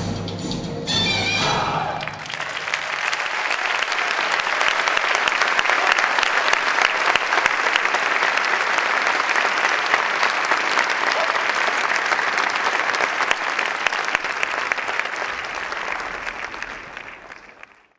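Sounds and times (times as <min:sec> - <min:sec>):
audience applauding: 0:02.0 - 0:17.9.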